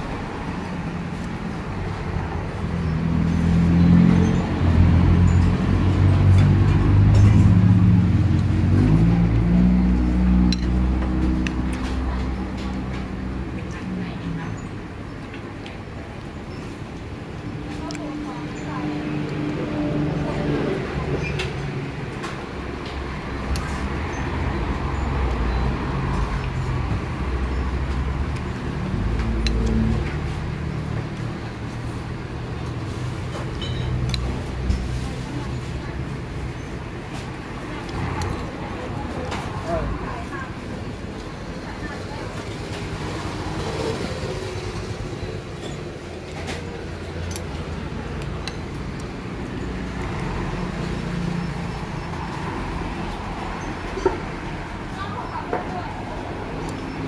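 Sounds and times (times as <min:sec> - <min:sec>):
road traffic rumbling: 0:00.0 - 0:57.0.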